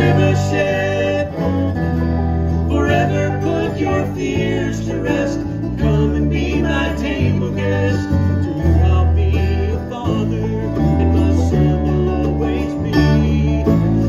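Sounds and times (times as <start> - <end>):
man singing: 0.0 - 2.0, 2.6 - 14.0
banjo: 0.0 - 14.0
bluegrass band playing: 0.0 - 14.0.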